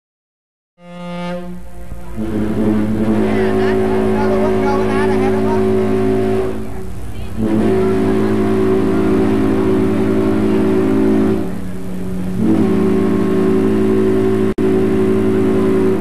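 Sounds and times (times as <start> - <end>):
ship's horn blasts: 0.8 - 16.0.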